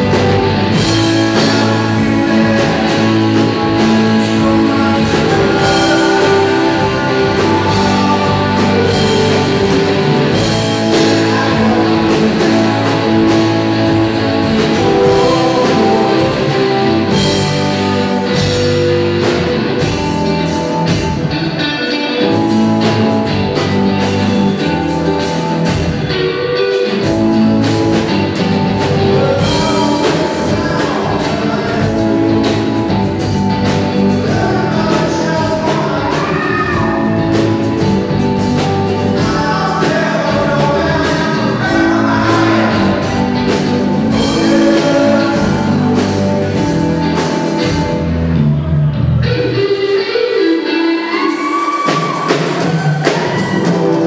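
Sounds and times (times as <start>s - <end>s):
live rock band playing funk: 0.0s - 54.0s.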